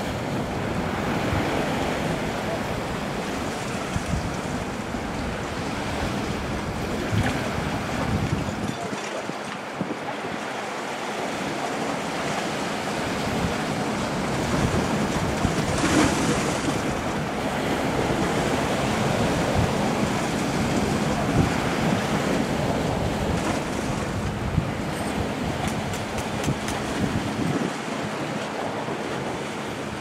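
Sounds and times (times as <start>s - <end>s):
waves washing over rocks: 0.0s - 30.0s
wind buffeting microphone: 0.0s - 30.0s.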